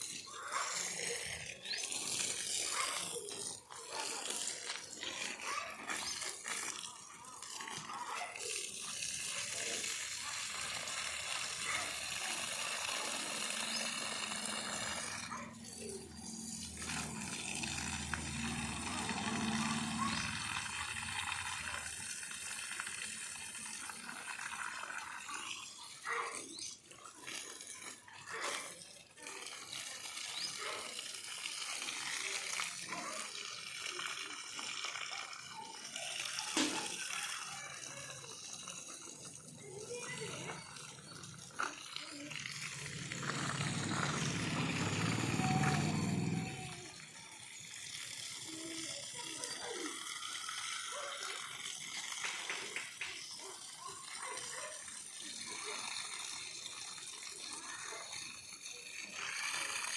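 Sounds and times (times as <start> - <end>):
water pouring and splashing: 0.0 - 59.9.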